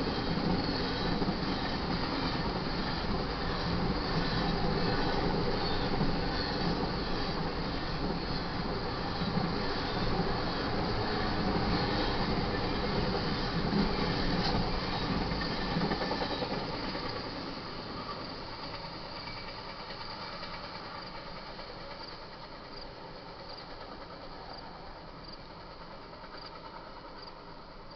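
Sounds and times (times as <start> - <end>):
train wheels on rails: 0.0 - 27.9.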